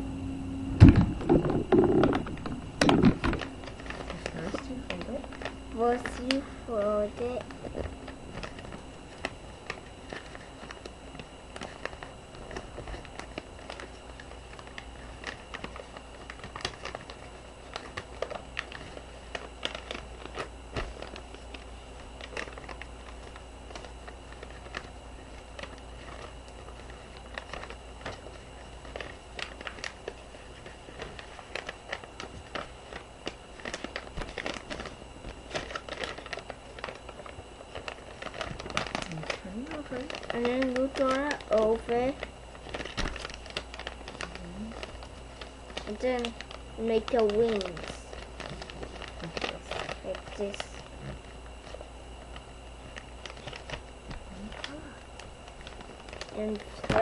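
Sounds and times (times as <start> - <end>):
paper crackles: 1.2 - 57.0
paper rustling and crinkling: 1.2 - 57.0.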